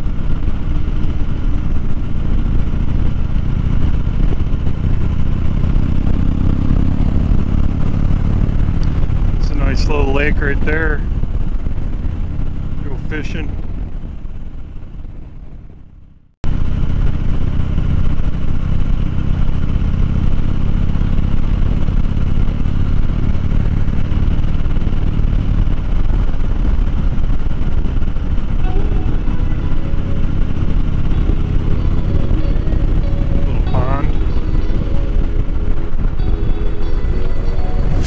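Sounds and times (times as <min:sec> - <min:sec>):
motorcycle engine cruising: 0:00.0 - 0:38.0
road and wind noise: 0:00.0 - 0:38.0.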